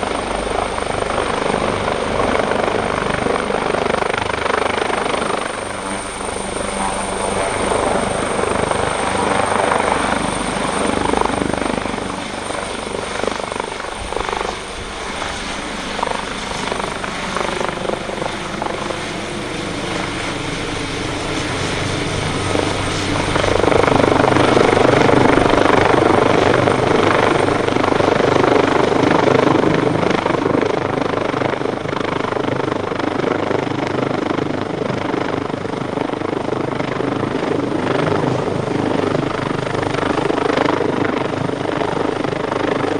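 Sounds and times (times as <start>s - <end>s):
helicopter running: 0.0s - 42.9s.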